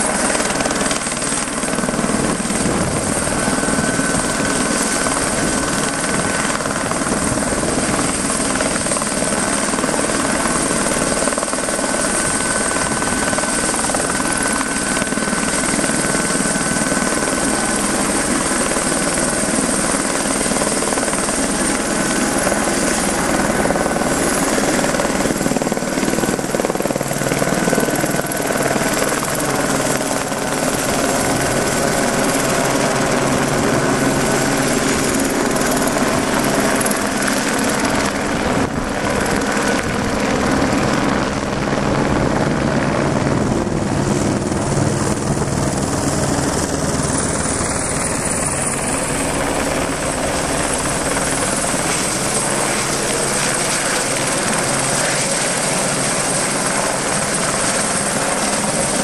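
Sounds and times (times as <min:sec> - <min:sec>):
helicopter rotor and turbine: 0:00.0 - 0:59.0
high turbine whine: 0:00.0 - 0:59.0.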